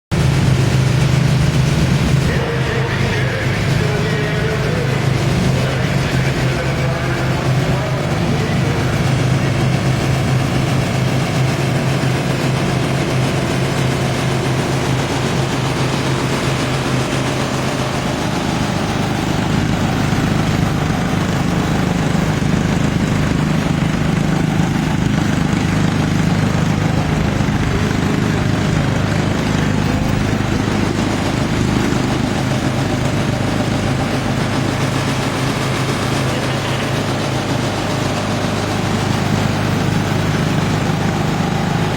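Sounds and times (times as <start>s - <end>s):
mower engine running: 0.1s - 41.9s.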